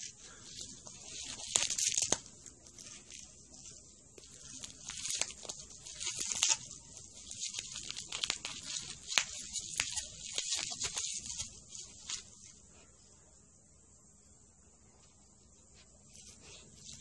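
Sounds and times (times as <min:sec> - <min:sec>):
bubble wrap crinkling and popping: 0:00.0 - 0:12.8, 0:16.1 - 0:17.0.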